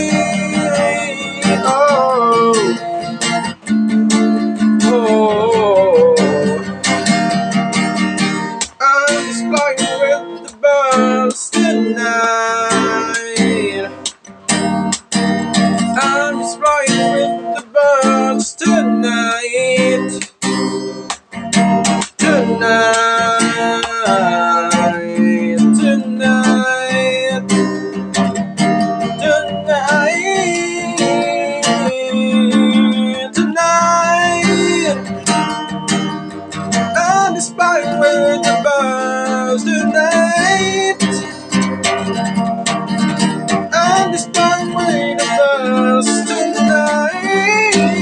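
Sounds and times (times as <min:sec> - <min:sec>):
sliding melody line: 0:00.0 - 0:48.0
strummed acoustic guitar: 0:00.0 - 0:48.0.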